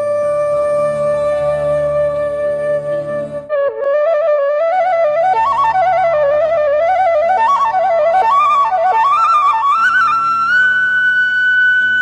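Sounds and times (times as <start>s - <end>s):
bamboo flute melody: 0.0s - 12.0s
low steady accompaniment: 0.0s - 12.0s.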